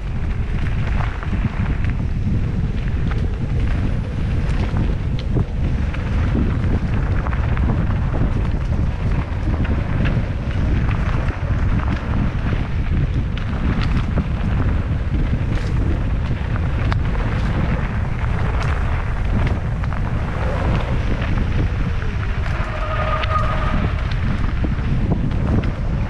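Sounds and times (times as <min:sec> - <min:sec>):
bike tyre noise: 0:00.0 - 0:26.0
bike whine: 0:00.0 - 0:26.0
wind buffeting microphone: 0:00.0 - 0:26.0.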